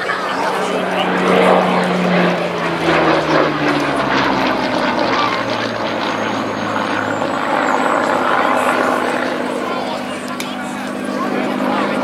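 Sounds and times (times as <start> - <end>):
propeller plane flying past overhead: 0.0 - 12.0.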